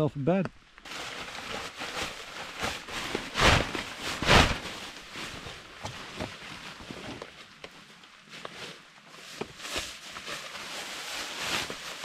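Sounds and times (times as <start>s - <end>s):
nylon gear rustling: 0.8s - 12.0s.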